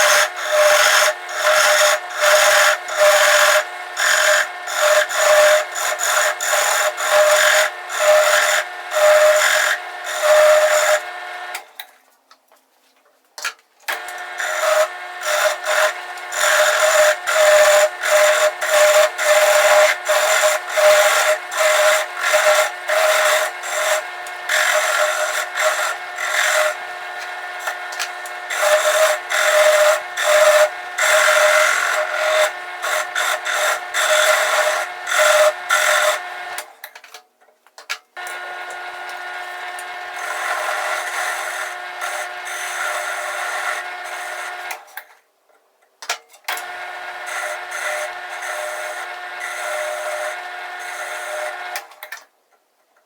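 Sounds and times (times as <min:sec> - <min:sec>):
turning tool cutting wood: 0:00.0 - 0:11.8, 0:13.9 - 0:36.8, 0:38.2 - 0:44.9, 0:46.5 - 0:52.1
wood lathe whine: 0:00.0 - 0:11.8, 0:13.9 - 0:36.7, 0:38.2 - 0:44.9, 0:46.6 - 0:52.0.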